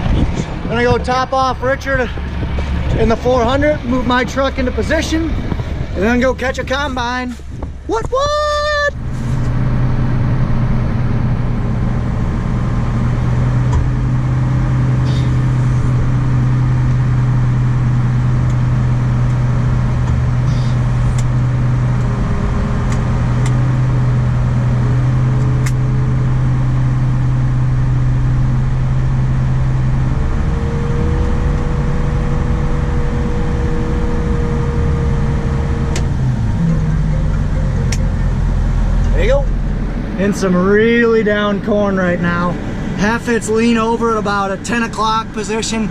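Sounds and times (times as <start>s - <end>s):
higher whine: 0.0s - 45.9s
vehicle engine humming: 0.0s - 45.9s.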